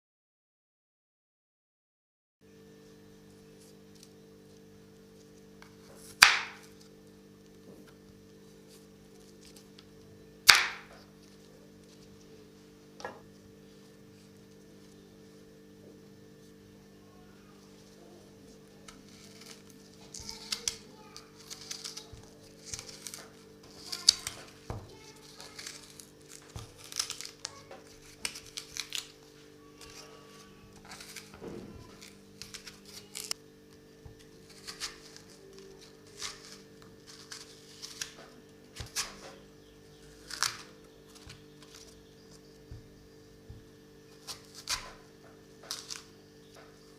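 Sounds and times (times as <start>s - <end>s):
steady low hum: 2.4s - 46.9s.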